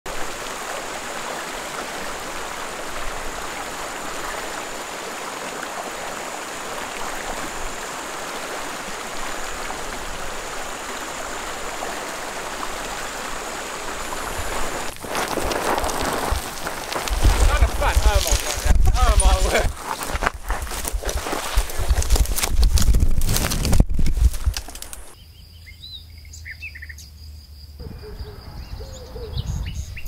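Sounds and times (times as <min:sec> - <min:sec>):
stream rushing over rocks: 0:00.1 - 0:25.2.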